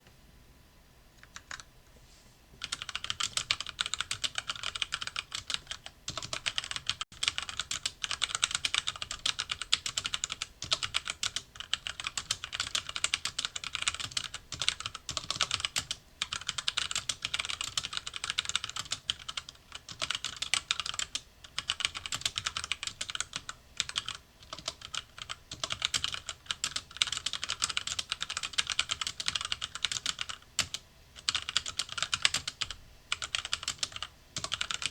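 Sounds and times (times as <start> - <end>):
mechanical keyboard typing: 1.2 - 1.7, 2.6 - 34.9.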